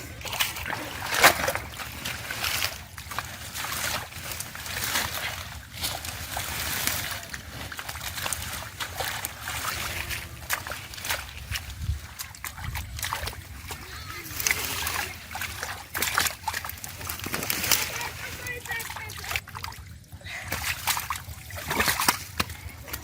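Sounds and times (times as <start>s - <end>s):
hands splashing river water: 0.0s - 23.0s.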